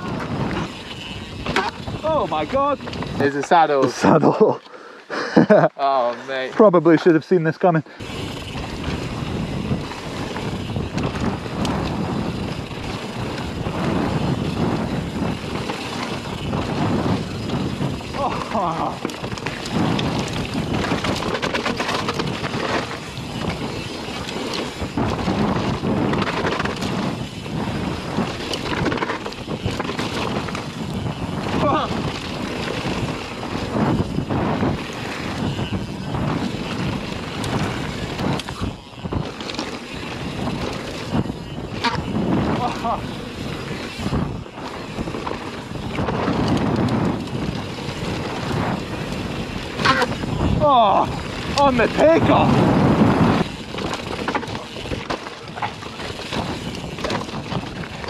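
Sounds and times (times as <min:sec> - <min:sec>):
bike frame rattling and knocking: 0:00.0 - 0:04.6, 0:08.0 - 0:58.0
wind noise on microphone: 0:00.0 - 0:04.6, 0:07.9 - 0:58.0
bike tyres over dirt and rock: 0:00.0 - 0:58.0.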